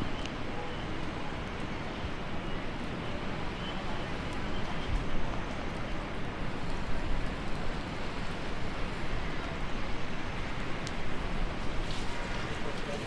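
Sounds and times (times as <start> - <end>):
heavy rain hissing: 2.2 - 13.0.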